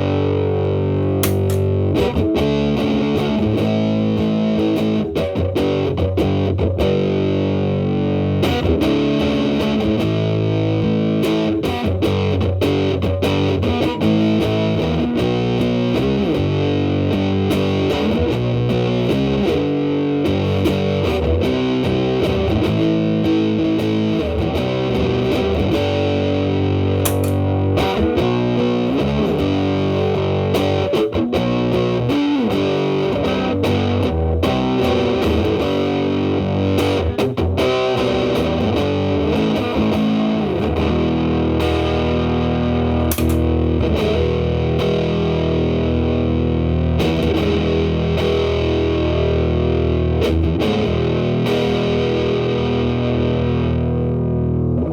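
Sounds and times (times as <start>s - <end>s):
fuzzed electric guitar: 0.0s - 54.9s.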